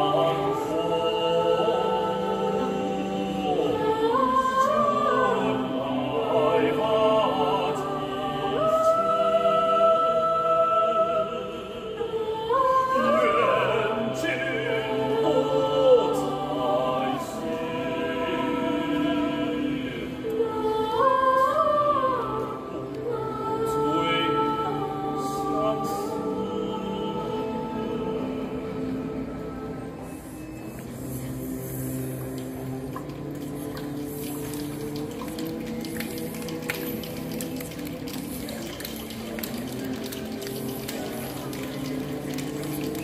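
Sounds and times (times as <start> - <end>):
mixed choir singing: 0.0 - 43.0.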